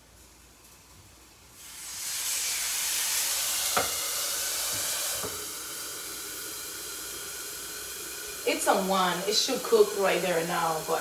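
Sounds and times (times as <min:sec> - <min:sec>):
water sizzling in hot pan: 0:00.0 - 0:11.0.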